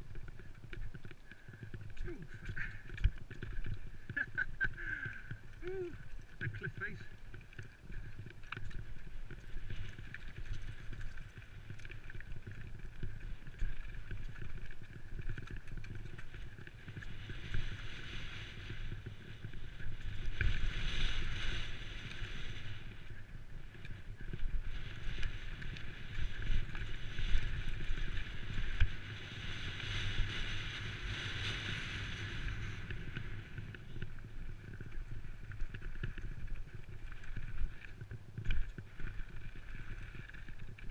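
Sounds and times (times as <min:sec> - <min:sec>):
bike tyres rattling over stones: 0:00.0 - 0:40.9
wind rumble on microphone: 0:00.0 - 0:40.9.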